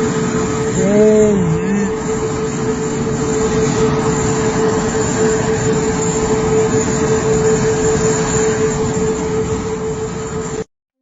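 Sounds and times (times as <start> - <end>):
jet engine running: 0.0 - 10.7.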